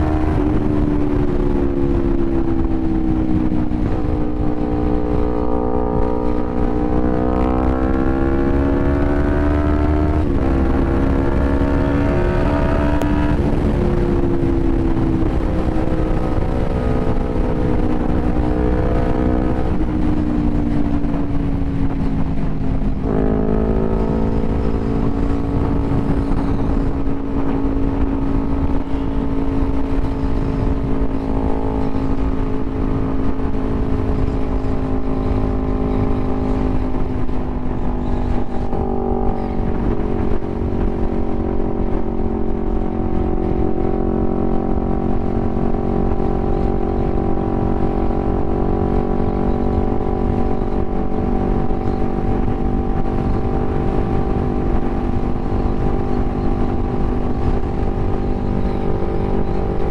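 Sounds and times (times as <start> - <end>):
heavy wind noise: 0.0 - 59.9
motorcycle engine cruising: 0.0 - 59.9.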